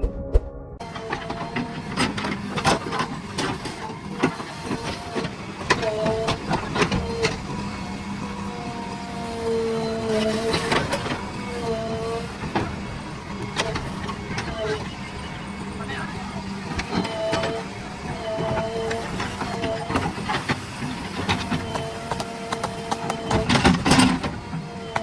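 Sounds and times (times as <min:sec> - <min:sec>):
engine and hydraulics running: 0:00.3 - 0:25.0.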